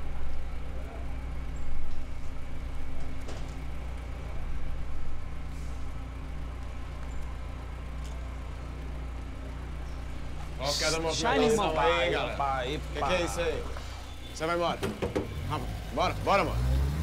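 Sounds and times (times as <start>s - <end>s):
car engine idling: 0.0s - 16.8s.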